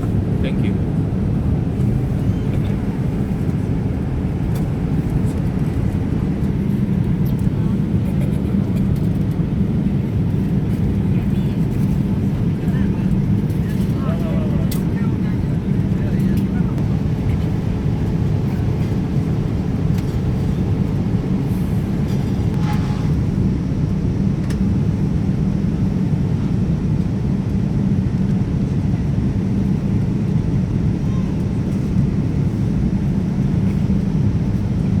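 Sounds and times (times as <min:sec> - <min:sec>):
jet engine cabin rumble: 0:00.0 - 0:35.0.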